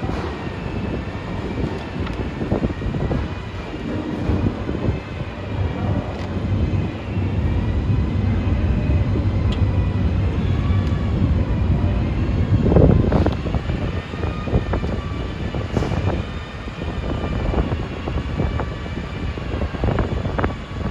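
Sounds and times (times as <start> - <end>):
vehicle engine rumble: 0.0 - 20.9.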